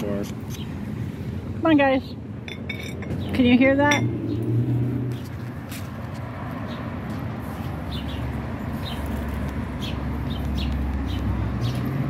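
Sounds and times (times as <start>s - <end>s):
small birds chirping: 0.0s - 2.3s, 3.0s - 5.8s, 6.6s - 12.0s
low traffic rumble: 0.0s - 12.0s.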